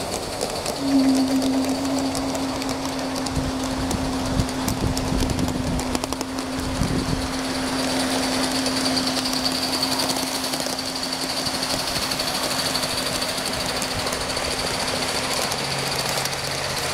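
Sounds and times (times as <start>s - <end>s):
model steam locomotive running on track: 0.0s - 16.9s.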